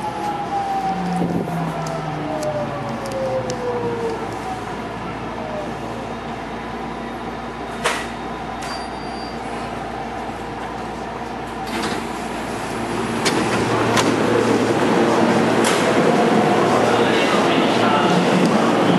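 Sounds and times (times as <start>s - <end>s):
train equipment hum: 0.0s - 18.9s.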